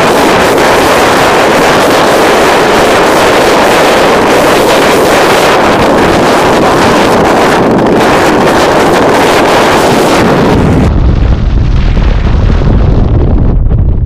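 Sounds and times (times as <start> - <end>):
wind rushing across microphone: 0.0 - 14.0.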